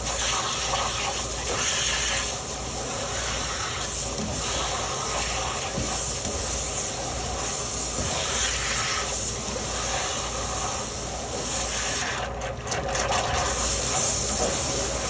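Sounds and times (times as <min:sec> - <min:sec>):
cooking hissing: 0:00.0 - 0:12.2, 0:13.4 - 0:15.0.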